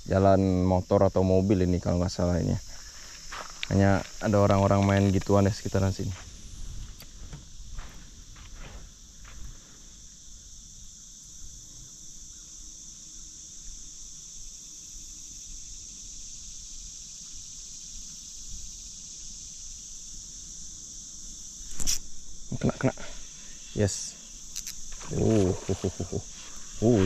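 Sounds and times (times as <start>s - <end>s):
insects shrilling: 0.0s - 27.0s.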